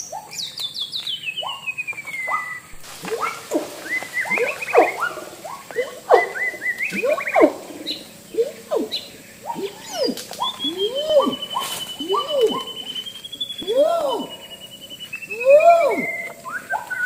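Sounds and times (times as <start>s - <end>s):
wild animal calls: 2.2s - 17.0s.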